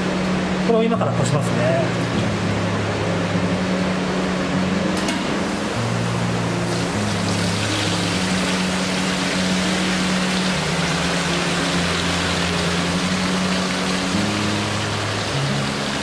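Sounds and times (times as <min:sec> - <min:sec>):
background music with low notes: 0:00.0 - 0:16.0.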